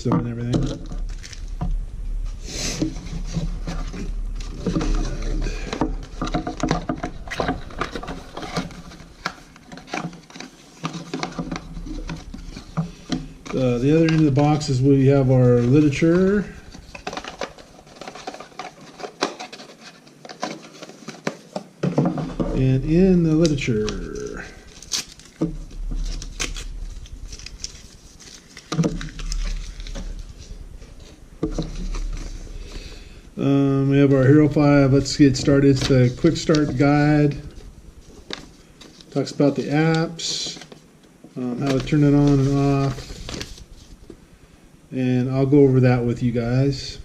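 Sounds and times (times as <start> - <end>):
plastic and cardboard packaging handled: 0.0 - 44.4.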